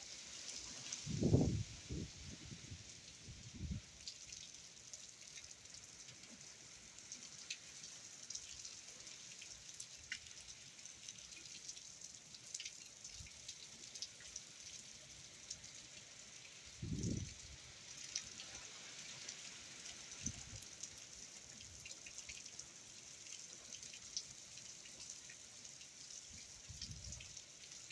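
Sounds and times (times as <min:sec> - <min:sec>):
raindrops ticking on surfaces: 0:01.7 - 0:27.9.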